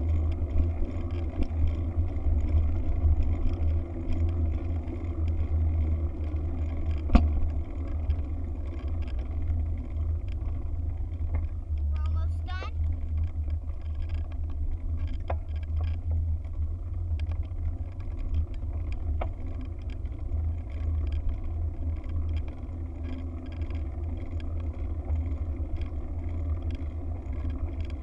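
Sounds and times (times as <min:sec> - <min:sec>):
faint ticks: 0:00.0 - 0:12.0, 0:12.8 - 0:28.0.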